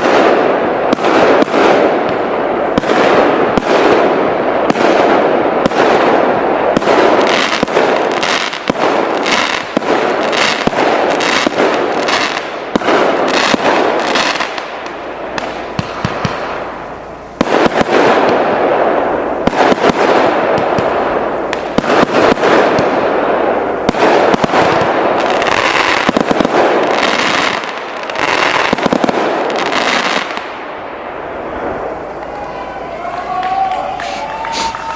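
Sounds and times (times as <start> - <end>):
firework battery firing shots: 0.0 - 32.3
firework crackling bursts: 0.0 - 34.9.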